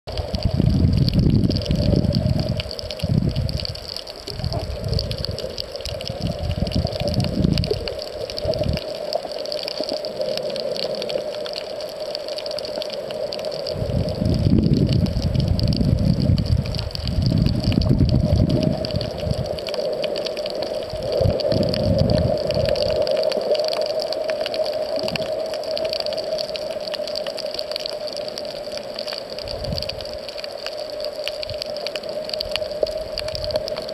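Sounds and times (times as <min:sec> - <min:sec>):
underwater rumbling water surges: 0:00.1 - 0:33.9.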